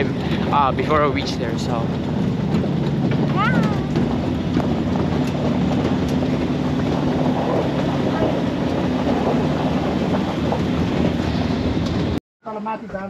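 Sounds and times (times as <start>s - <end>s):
truck engine running: 0.0s - 12.2s
road noise: 0.0s - 12.6s
wind: 0.0s - 13.0s.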